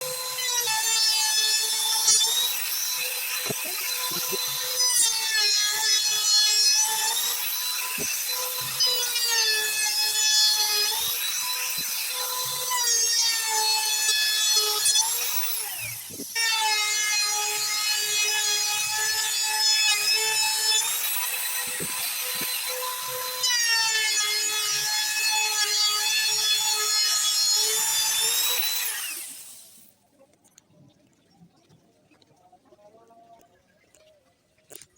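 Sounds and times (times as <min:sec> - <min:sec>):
power carving tool cutting wood: 0:00.0 - 0:29.9.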